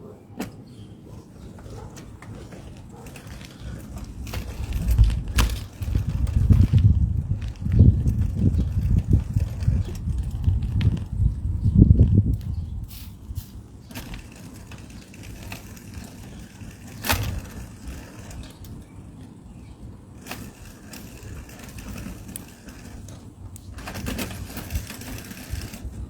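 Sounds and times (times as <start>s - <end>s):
bike clicks and rattles: 0.3s - 26.0s
bicycle tyres rumbling: 0.4s - 26.0s.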